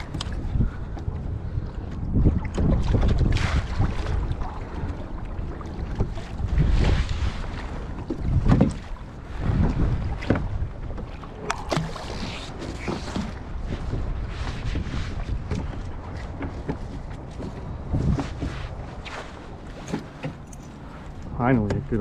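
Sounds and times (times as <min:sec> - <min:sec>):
water lapping: 0:00.0 - 0:22.0
wind buffeting microphone: 0:00.0 - 0:22.0.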